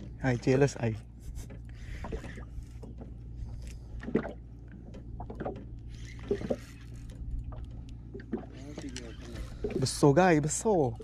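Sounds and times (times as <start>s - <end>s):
steady low hum: 0.0s - 11.0s
water sloshing against hull: 0.0s - 11.0s.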